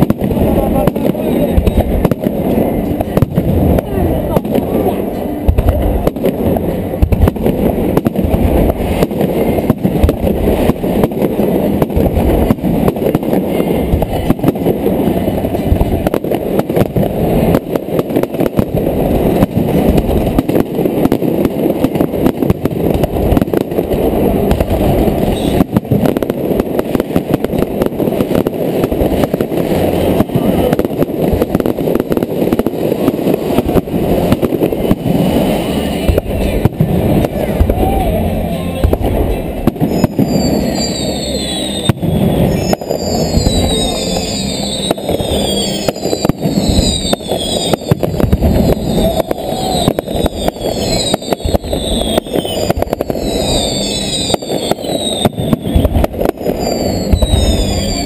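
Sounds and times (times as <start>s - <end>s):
muffled fireworks bangs and crackles: 0.0s - 58.0s.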